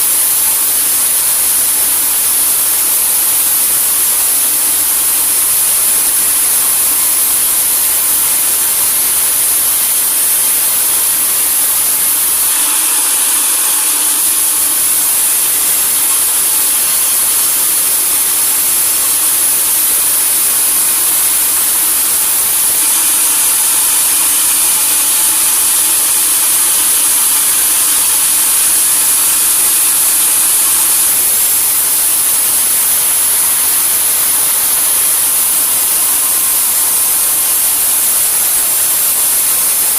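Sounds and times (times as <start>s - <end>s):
sawmill saw cutting logs: 0.0s - 39.9s.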